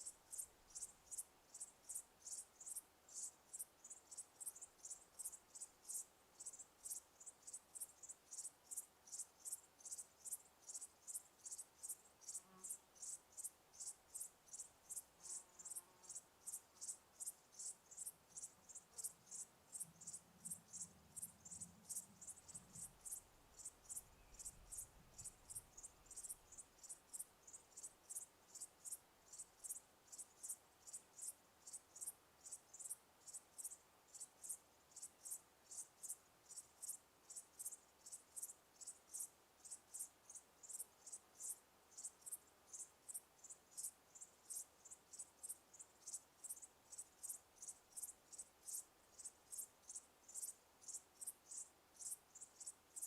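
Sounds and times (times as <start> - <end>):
faint cricket chirping: 0.0 - 53.0.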